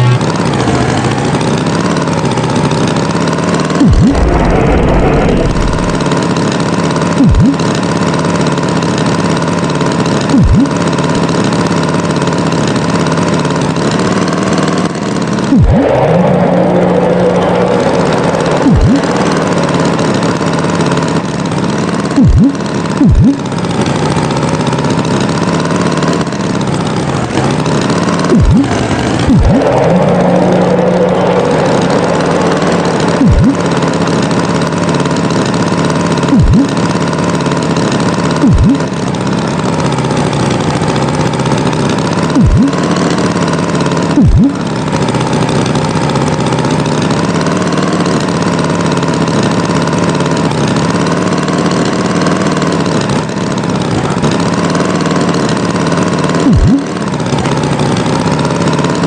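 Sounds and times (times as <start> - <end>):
cartoon tractor engine running: 0.0 - 59.0.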